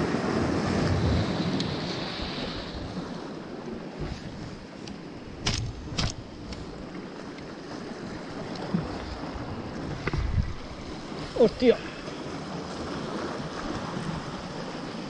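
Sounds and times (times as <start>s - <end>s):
sea waves washing: 0.0s - 15.0s
wind on microphone: 0.0s - 15.0s.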